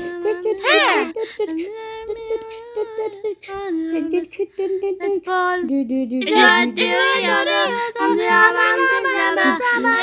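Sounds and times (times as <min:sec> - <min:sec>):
child singing: 0:00.0 - 0:10.0.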